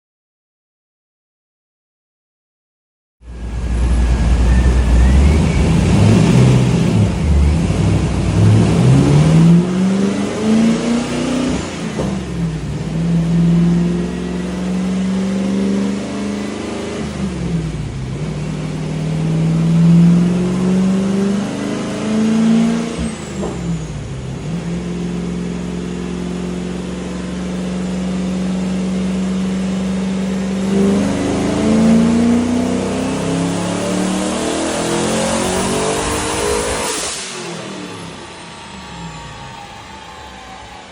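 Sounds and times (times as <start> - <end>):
car engine revving on dyno: 3.3 - 40.9.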